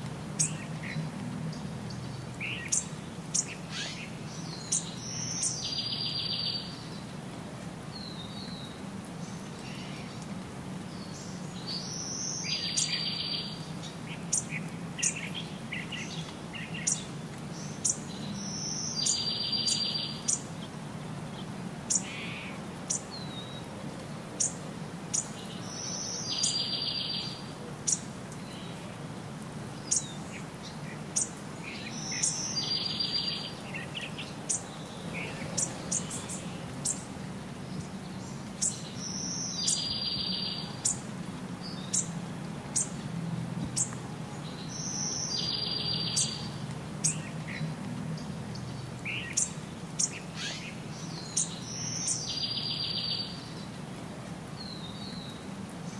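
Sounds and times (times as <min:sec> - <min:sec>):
small birds chirping: 0:00.3 - 0:07.2, 0:07.8 - 0:23.7, 0:24.3 - 0:29.1, 0:29.7 - 0:53.9, 0:54.5 - 0:55.9.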